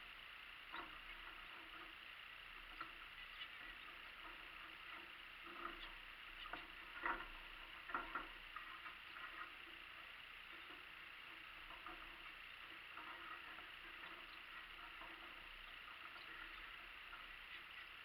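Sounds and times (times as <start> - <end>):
birds chirping: 2.7 - 7.1, 7.8 - 18.0.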